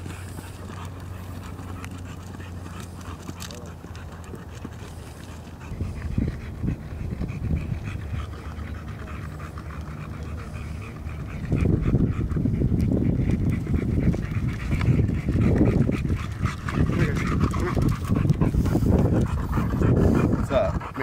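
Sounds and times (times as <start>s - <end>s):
dogs panting hard: 0.0s - 21.0s.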